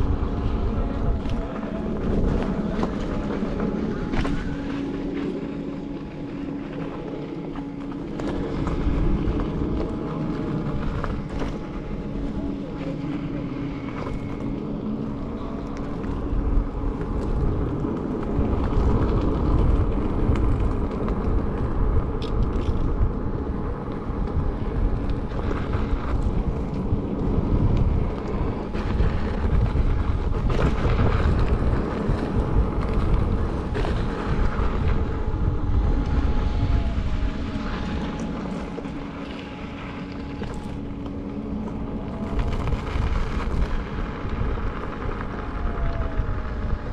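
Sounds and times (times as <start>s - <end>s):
faint thin steady whine: 0.0s - 46.9s
wind buffeting microphone: 0.0s - 46.9s.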